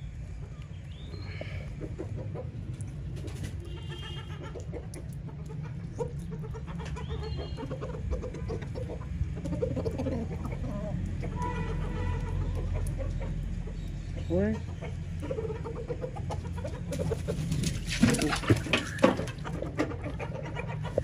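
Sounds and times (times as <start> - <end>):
chickens clucking: 0.1 - 21.0.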